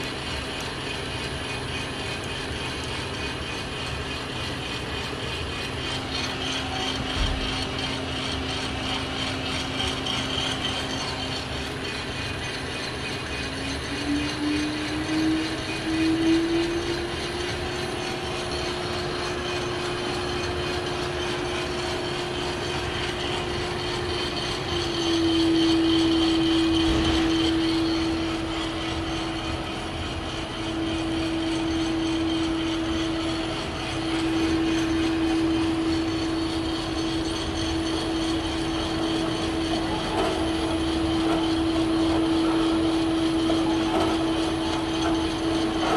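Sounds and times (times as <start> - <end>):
coffee roaster mechanical rattle: 0.0 - 45.9
motor hum: 0.0 - 45.9.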